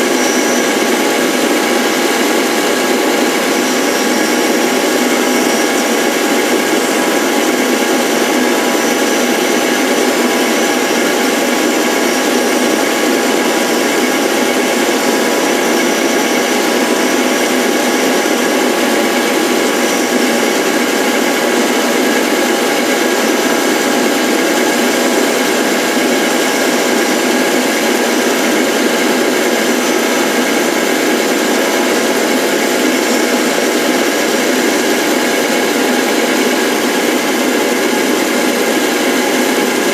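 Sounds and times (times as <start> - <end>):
lathe motors whining: 0.0 - 39.9.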